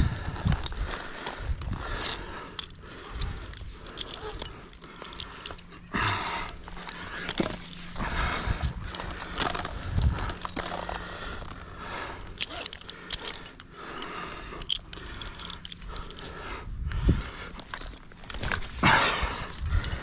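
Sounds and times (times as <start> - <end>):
climbing gear clicks and knocks: 0.0 - 20.0
man breathing heavily: 0.0 - 20.0.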